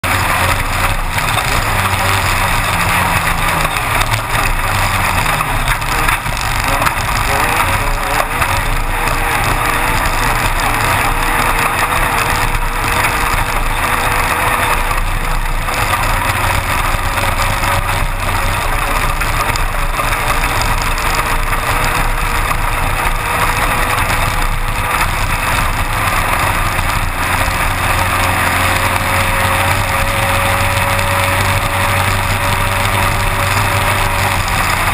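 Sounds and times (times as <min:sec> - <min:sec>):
buggy engine running: 0:00.0 - 0:34.9
constant noisy wash: 0:00.0 - 0:34.9.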